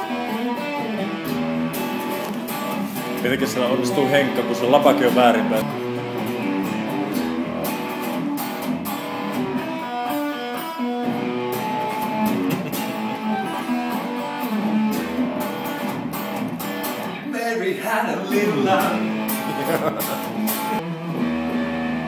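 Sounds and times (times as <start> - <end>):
electric guitar strumming chords: 0.0 - 22.0
picked guitar notes: 0.0 - 22.0.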